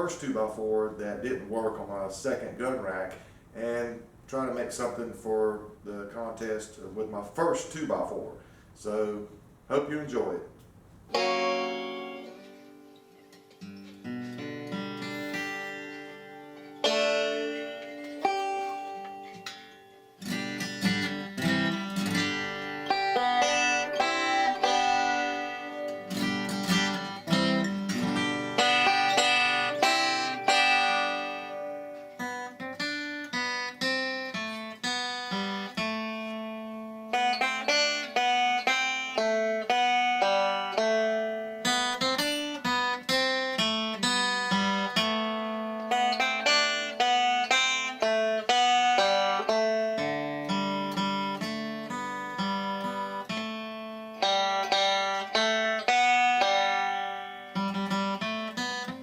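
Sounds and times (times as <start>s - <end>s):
acoustic guitar melody: 0.0s - 59.0s.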